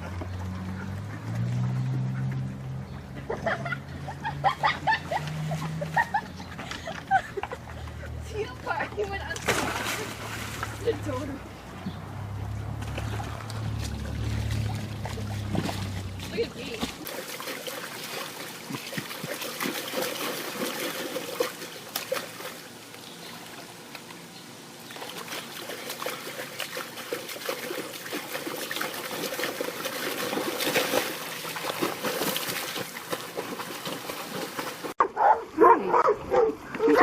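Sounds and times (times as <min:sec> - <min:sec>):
pool water splashing and trickling: 0:00.0 - 0:37.0.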